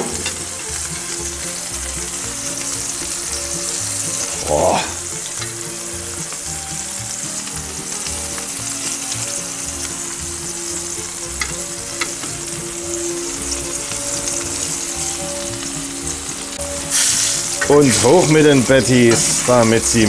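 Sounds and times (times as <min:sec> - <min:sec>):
burger patties sizzling: 0:00.0 - 0:20.0.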